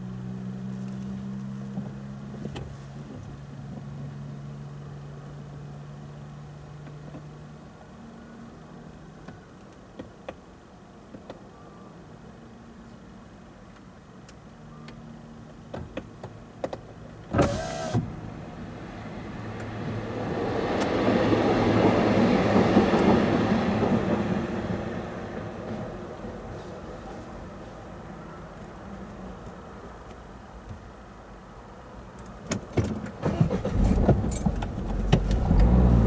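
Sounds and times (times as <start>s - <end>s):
vehicle rumble: 0.0s - 36.0s.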